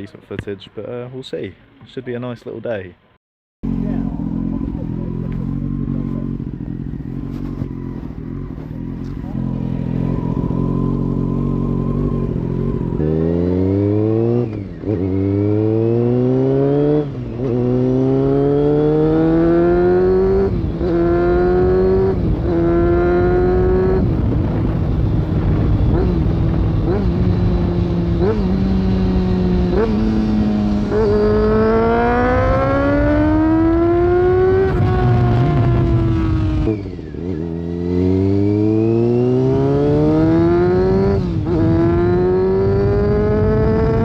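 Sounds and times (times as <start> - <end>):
motorcycle engine revving: 3.6 - 44.0.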